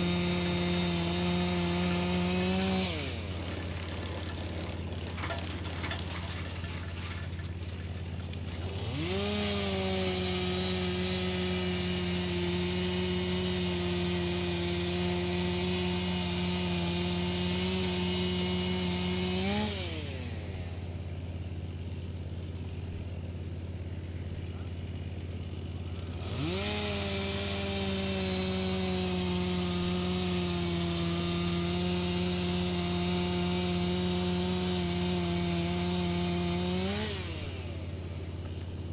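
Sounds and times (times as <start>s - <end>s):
wood chipper grinding: 0.0s - 38.9s
wood chipper running: 0.0s - 38.9s.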